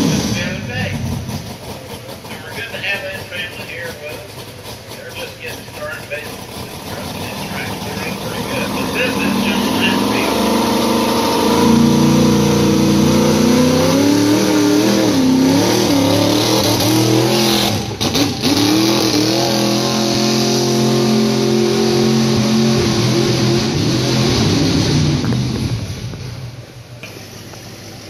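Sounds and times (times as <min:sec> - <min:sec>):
truck engine at high revs: 0:00.0 - 0:28.0.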